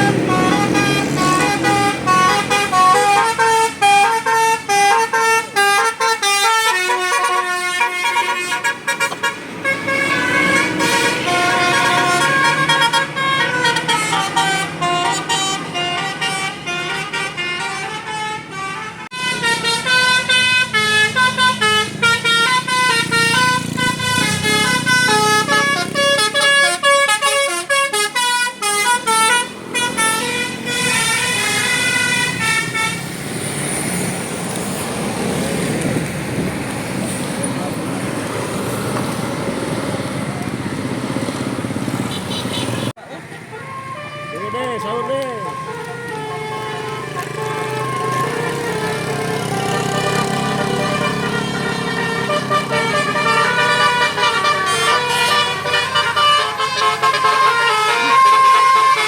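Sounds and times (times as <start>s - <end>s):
bus horn playing a tune: 0.0s - 33.2s, 41.8s - 59.0s.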